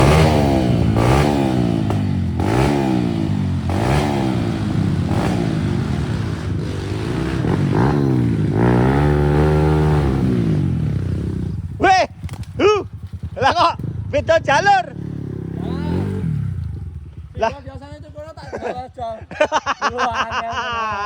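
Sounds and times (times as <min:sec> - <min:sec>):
dirt bike engine revving: 0:00.0 - 0:18.7.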